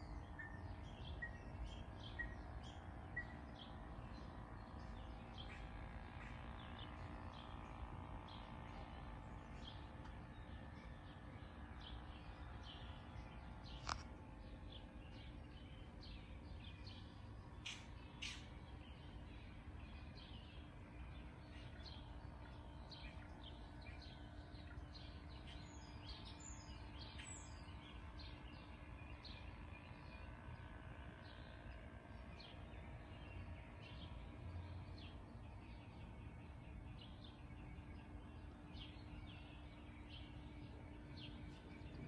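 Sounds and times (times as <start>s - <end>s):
faint birdsong: 0.0s - 42.0s
low background rumble: 0.0s - 42.0s.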